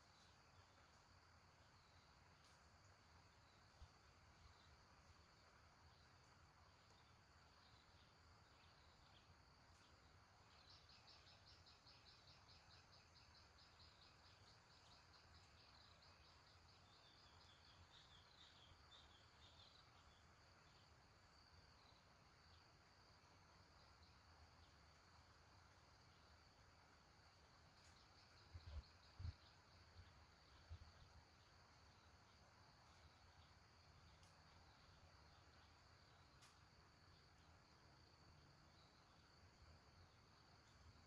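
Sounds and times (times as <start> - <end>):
high insect drone: 0.0 - 41.0.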